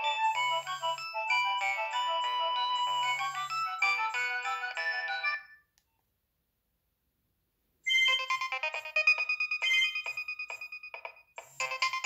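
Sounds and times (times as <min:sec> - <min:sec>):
beat-driven ringtone tune: 0:00.0 - 0:05.7, 0:07.9 - 0:12.0
electronic ringtone melody: 0:00.0 - 0:05.7, 0:07.9 - 0:12.0.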